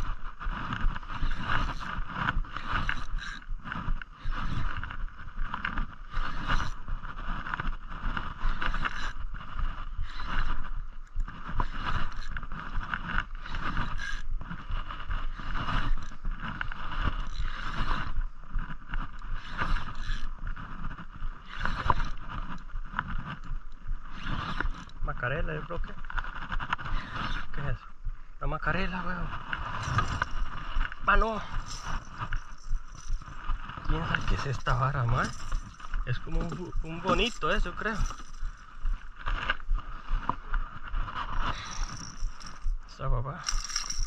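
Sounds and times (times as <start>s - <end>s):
fishing reel whirring: 0.0s - 27.8s, 28.7s - 44.0s.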